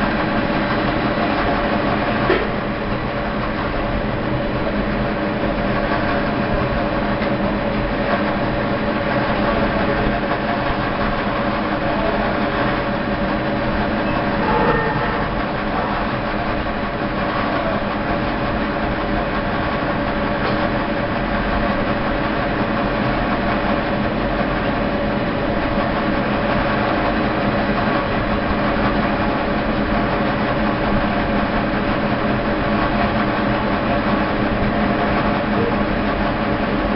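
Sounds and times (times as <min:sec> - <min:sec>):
rope making machine humming: 0:00.0 - 0:36.9.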